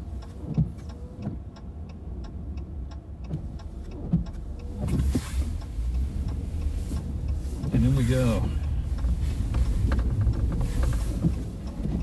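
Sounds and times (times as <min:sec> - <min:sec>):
engine and road rumble: 0:00.0 - 0:12.0
hissy road noise: 0:00.0 - 0:12.0
turn signal ticking: 0:00.0 - 0:12.0.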